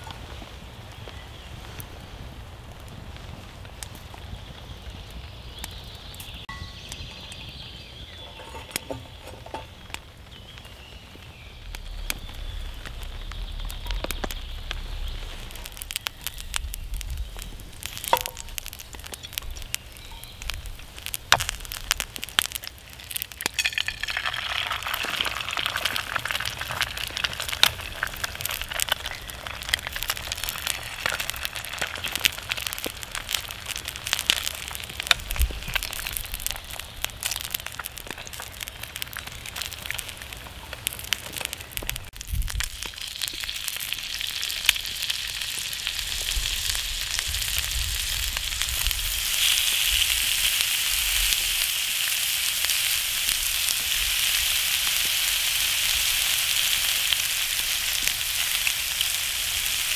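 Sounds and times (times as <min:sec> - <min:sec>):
campfire crackling: 0:00.0 - 0:59.9
eggs sizzling in a pan: 0:03.8 - 0:59.9.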